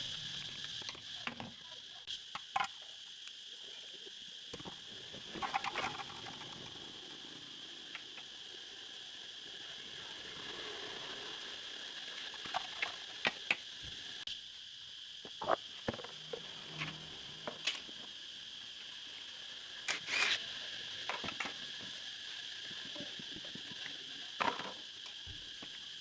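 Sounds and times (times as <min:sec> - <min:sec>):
steady high hiss: 0:00.0 - 0:26.0.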